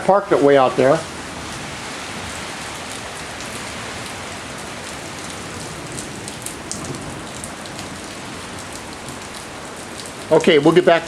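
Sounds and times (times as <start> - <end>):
windstorm rushing hiss: 0.0 - 11.0.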